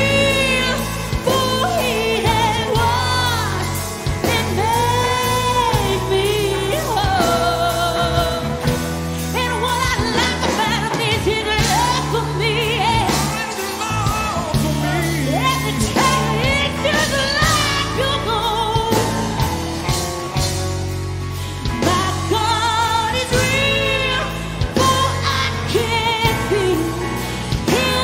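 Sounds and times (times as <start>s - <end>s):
person singing with vibrato: 0.0s - 20.6s, 21.3s - 28.0s
instrumental backing with bass: 0.0s - 28.0s.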